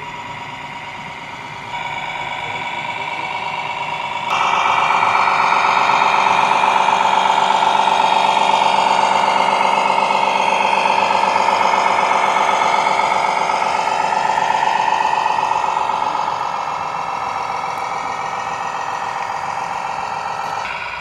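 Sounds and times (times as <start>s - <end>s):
model truck motor whine: 0.0s - 21.0s.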